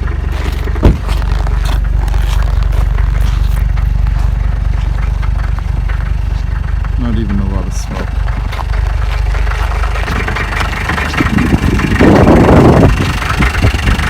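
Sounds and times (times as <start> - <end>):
diesel engine running rough: 0.0 - 14.0.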